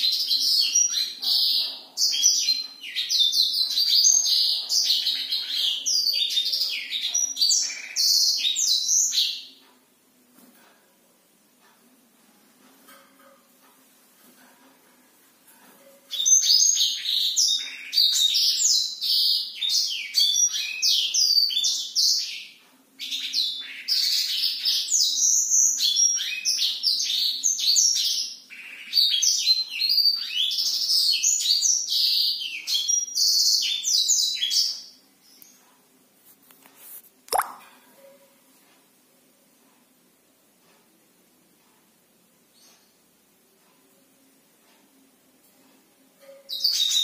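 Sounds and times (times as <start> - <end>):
canary singing chirps and trills: 0.0 - 36.0, 42.4 - 43.9, 45.5 - 47.0.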